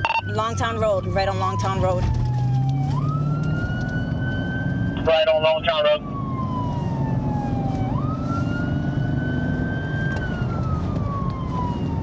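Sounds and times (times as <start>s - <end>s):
car engine and road noise: 0.0s - 12.0s
police siren wailing: 0.0s - 12.0s.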